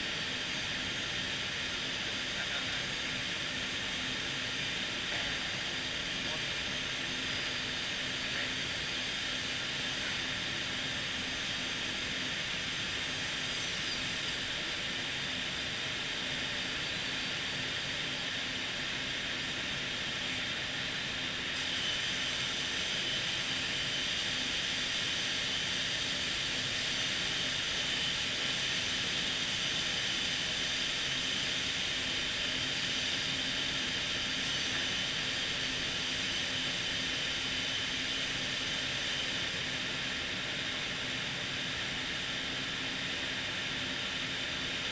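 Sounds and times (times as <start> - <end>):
machine whirring and hissing: 0.0 - 44.9.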